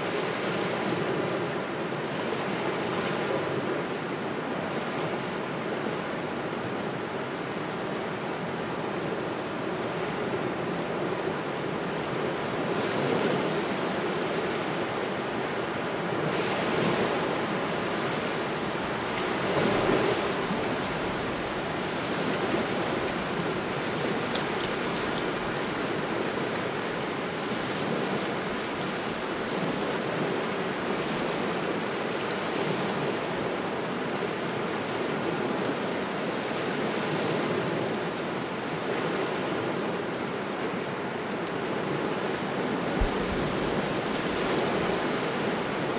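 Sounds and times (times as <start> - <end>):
gusting wind: 0.0 - 45.9
small waves washing ashore: 0.0 - 45.9.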